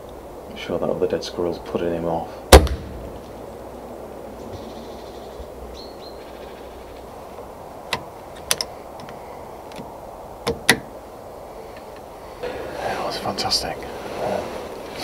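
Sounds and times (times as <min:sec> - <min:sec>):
quiet background hiss: 0:00.0 - 0:15.0.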